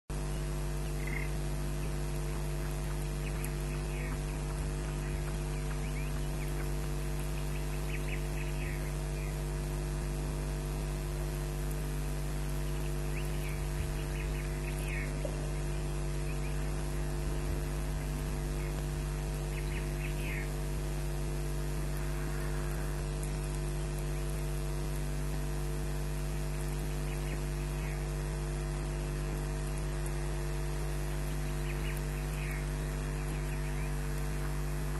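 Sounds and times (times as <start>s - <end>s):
electrical mains hum: 0.1s - 34.9s.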